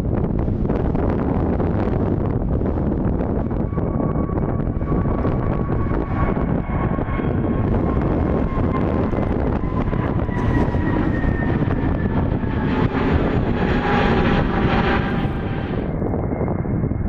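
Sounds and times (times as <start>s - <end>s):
jet engines passing overhead: 0.0s - 17.0s.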